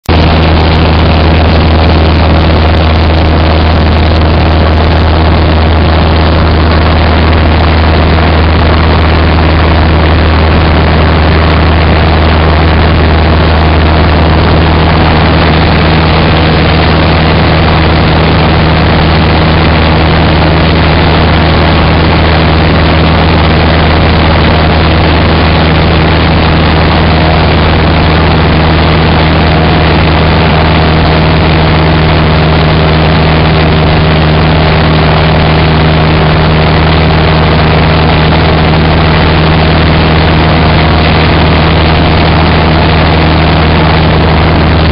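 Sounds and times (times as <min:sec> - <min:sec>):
airplane engine and propeller drone: 0:00.0 - 0:44.9
constant rushing noise: 0:00.0 - 0:44.9.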